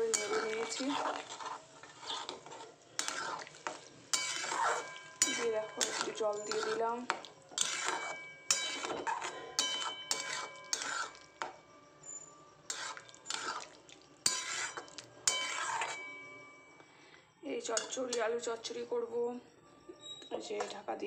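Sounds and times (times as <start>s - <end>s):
metal spatula scraping a pan: 0.0s - 16.6s, 17.7s - 18.8s.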